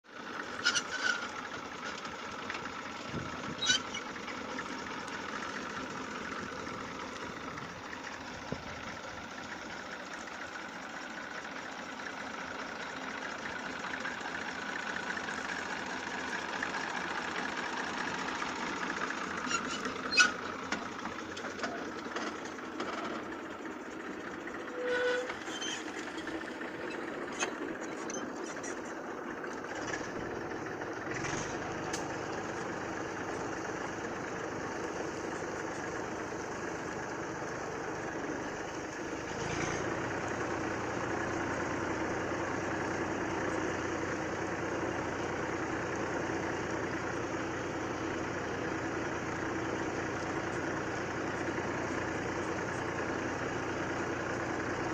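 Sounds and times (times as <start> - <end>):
diesel tractor engine running: 0.0 - 54.9.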